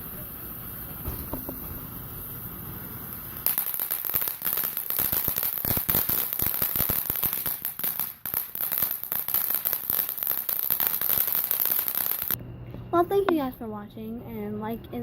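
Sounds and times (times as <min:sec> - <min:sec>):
firework crackling pops: 0:00.0 - 0:12.4.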